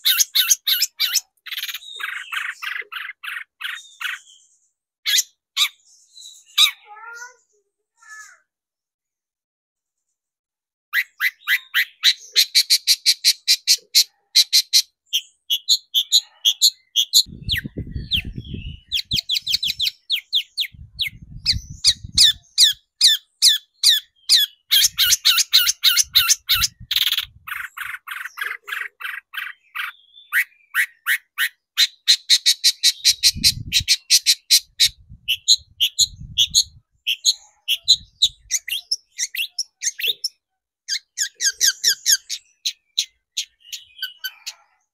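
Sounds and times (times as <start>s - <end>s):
bird harsh chattering song: 0.0s - 8.5s, 10.9s - 44.9s.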